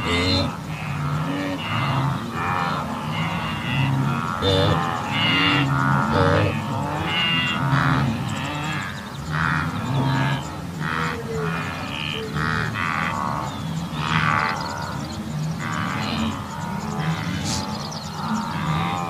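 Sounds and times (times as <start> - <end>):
wildebeest grunting calls: 0.0 - 19.0.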